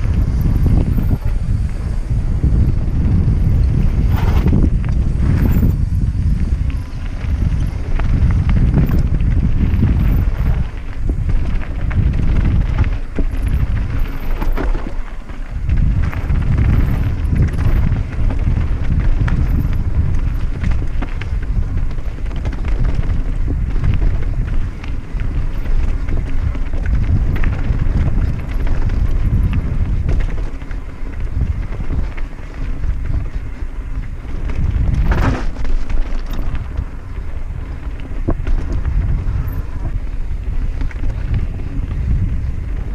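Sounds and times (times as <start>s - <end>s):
bike rattling: 0.0s - 42.9s
bike tyres rolling: 0.0s - 42.9s
wind buffeting microphone: 0.0s - 42.9s.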